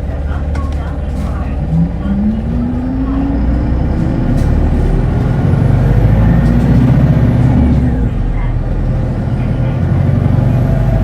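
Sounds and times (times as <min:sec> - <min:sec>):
bus accelerating drivetrain rumble: 0:00.0 - 0:11.0.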